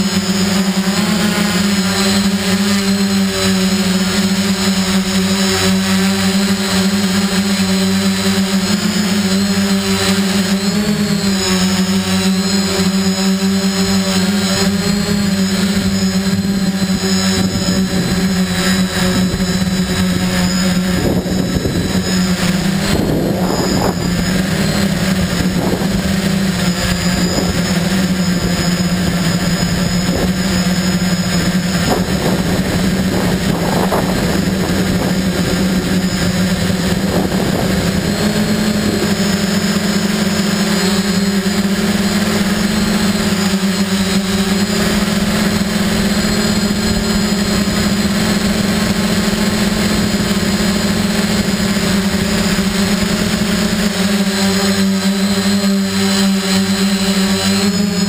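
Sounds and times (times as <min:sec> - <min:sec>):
drone propellers buzzing: 0:00.0 - 0:58.0.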